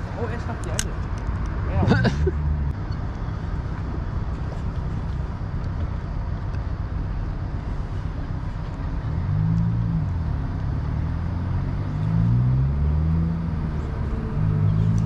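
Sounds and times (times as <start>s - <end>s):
engine drone passing close: 0.0s - 15.0s
steady low rumble: 0.0s - 15.0s.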